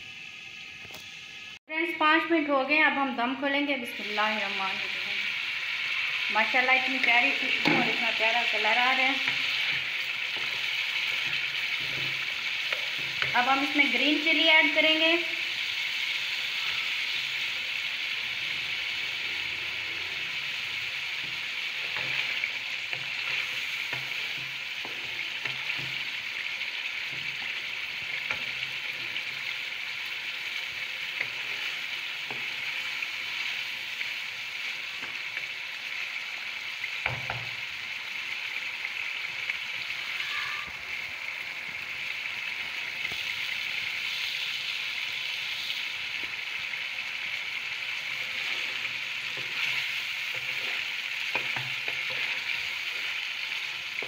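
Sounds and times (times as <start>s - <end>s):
chicken sizzling in a pan: 0.0s - 54.0s.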